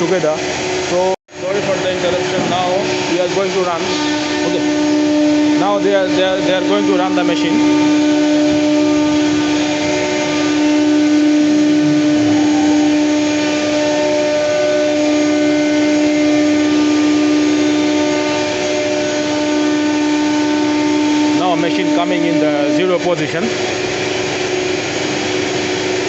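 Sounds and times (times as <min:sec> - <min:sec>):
router machines whining: 0:00.0 - 0:26.0.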